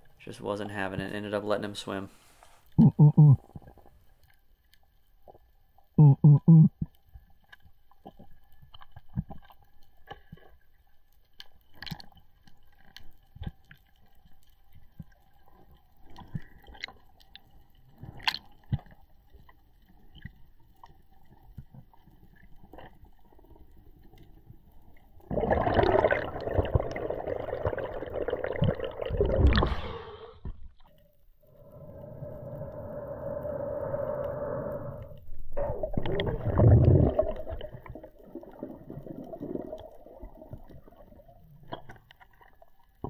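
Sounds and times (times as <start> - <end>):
underwater clicks and crackles: 2.6 - 6.0, 6.6 - 29.8, 30.4 - 43.0.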